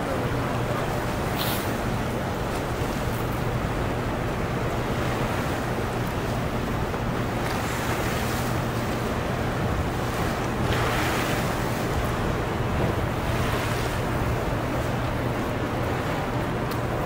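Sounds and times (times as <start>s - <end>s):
water rushing through spillway: 0.0s - 17.0s.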